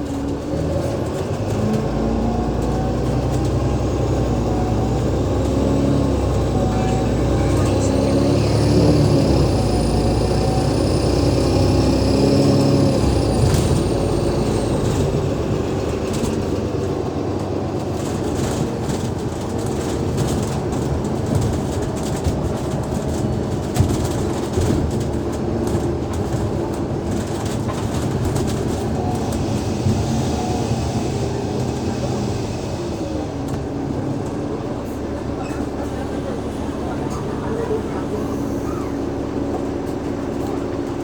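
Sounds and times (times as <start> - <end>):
bus diesel engine running: 0.0 - 41.0
rattles and clicks of bus body: 0.0 - 41.0
road and tyre noise: 0.0 - 41.0.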